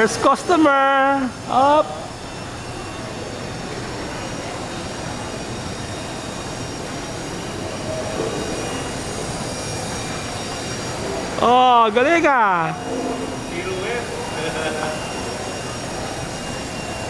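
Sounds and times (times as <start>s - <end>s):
toy helicopter rotors whining: 0.0s - 17.0s.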